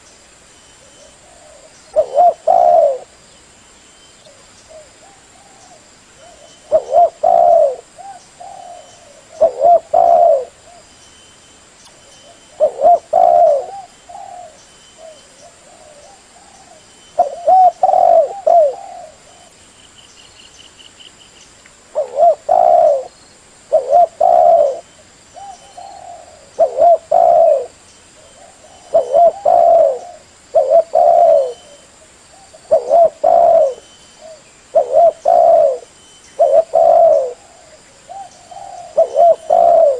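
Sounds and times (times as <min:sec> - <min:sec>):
dove cooing: 0:00.8 - 0:03.1, 0:04.3 - 0:10.9, 0:12.2 - 0:19.6, 0:21.9 - 0:23.1, 0:23.7 - 0:39.9.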